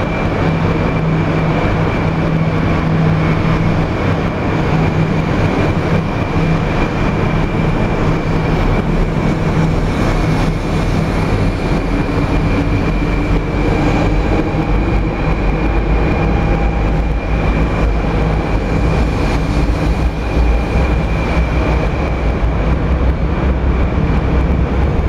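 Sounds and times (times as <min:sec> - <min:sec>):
train high whine: 0:00.0 - 0:25.0
train low rumble: 0:00.0 - 0:25.0.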